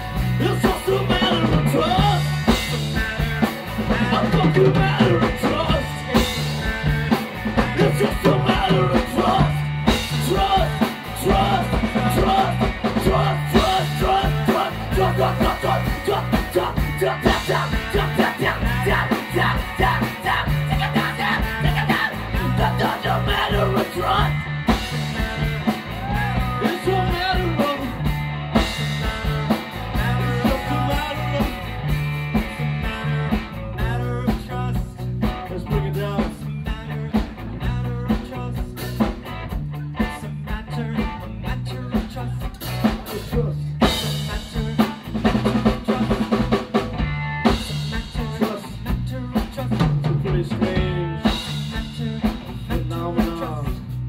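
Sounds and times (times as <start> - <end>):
person singing: 0.0 - 28.0, 28.6 - 31.7, 32.3 - 39.2, 39.8 - 46.6, 47.4 - 53.9
rock band playing: 0.0 - 54.0.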